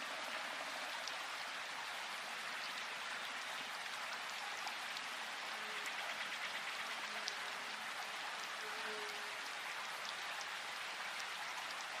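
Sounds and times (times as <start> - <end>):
gentle rain pattering: 0.0 - 12.0.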